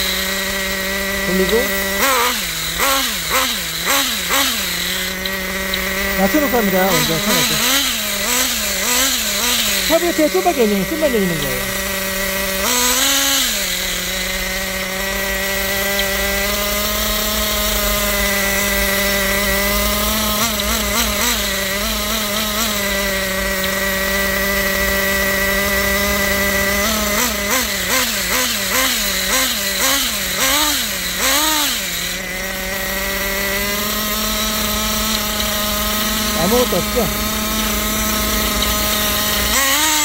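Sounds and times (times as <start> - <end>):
nitro engine idling and revving: 0.0 - 40.0.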